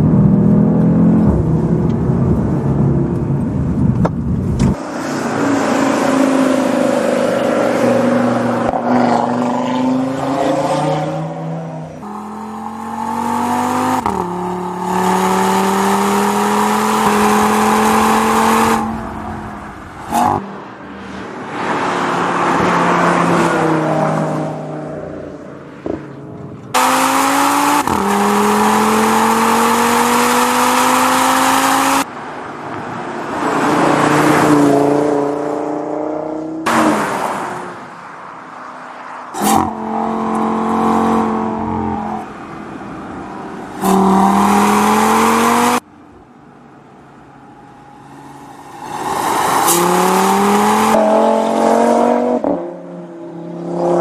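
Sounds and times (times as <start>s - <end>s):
car engine revving and passing: 4.5s - 45.9s, 47.3s - 54.0s.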